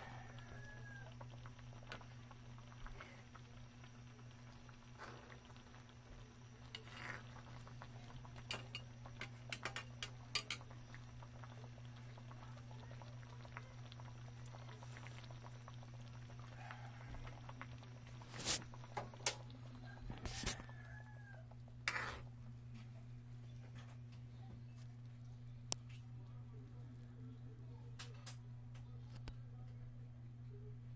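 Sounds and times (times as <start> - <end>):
broth simmering in a pan: 0.0 - 28.6
steady low hum: 0.0 - 30.9.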